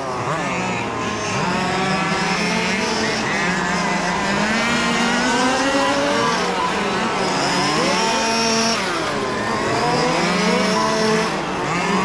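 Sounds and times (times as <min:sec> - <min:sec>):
small two-stroke engines racing: 0:00.0 - 0:12.0.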